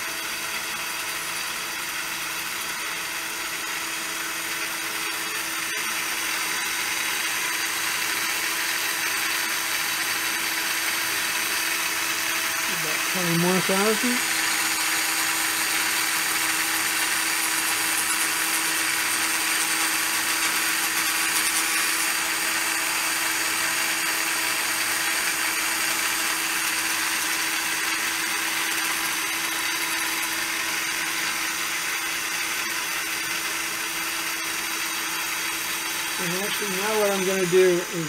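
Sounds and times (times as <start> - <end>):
rotary cutter spinning: 0.0 - 38.0.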